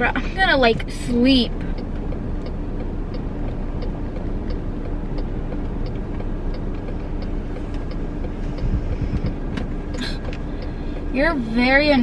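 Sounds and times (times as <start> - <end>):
road and engine noise in car: 0.0 - 12.0
turn signal ticking: 0.0 - 12.0.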